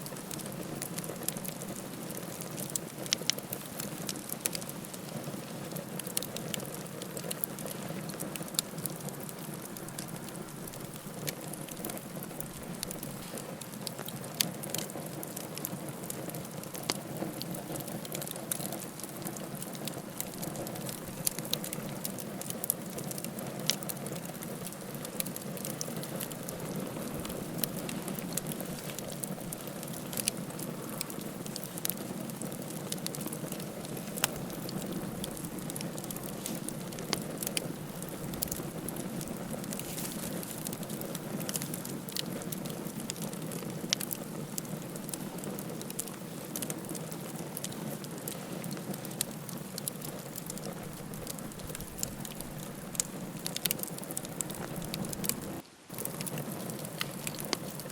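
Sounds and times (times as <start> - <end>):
campfire flame rushing: 0.0 - 57.9
fire crackles and pops: 0.0 - 57.9.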